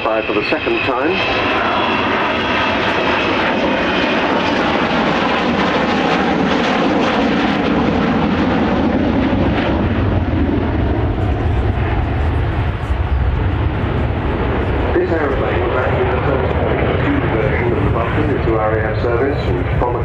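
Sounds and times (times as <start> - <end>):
loud jet roar: 0.0 - 20.0.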